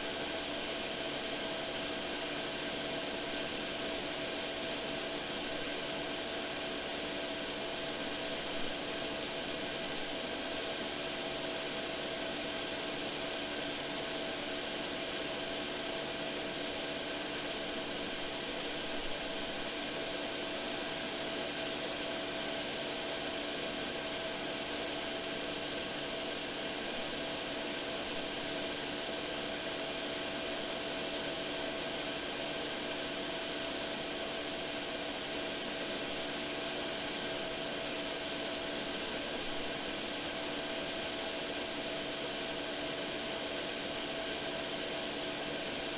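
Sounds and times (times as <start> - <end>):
heater fans whirring: 0.0 - 45.9.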